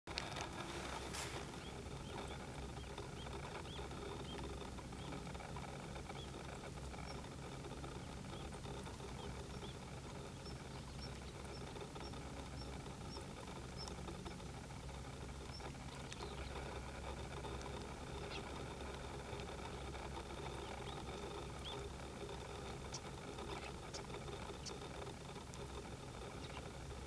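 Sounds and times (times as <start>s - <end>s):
distant bird chirping: 0.1s - 27.0s
low background rumble: 0.1s - 27.0s.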